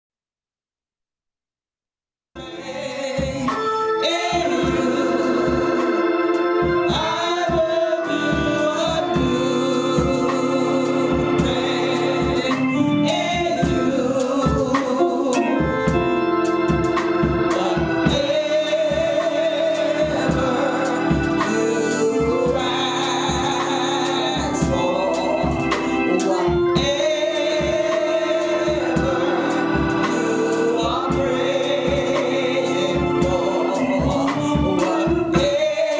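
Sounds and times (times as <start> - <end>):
gospel singing with organ: 2.4 - 35.9.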